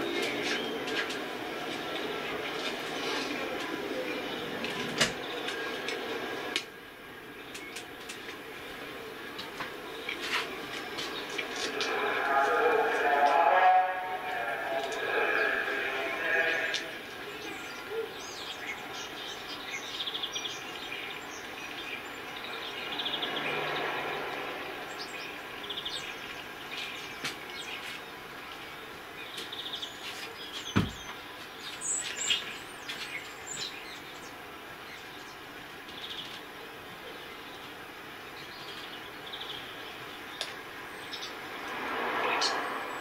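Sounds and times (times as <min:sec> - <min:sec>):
small birds chirping: 0:00.0 - 0:13.2, 0:14.2 - 0:41.5
steady background noise: 0:00.0 - 0:43.0.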